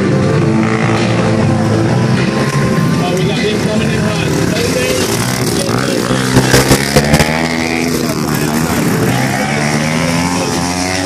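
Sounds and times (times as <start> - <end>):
mini dirt bike engines revving: 0.0 - 11.0.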